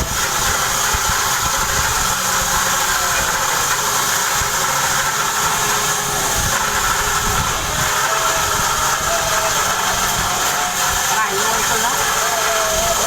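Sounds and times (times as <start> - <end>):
machine running with loud hiss: 0.0 - 13.0.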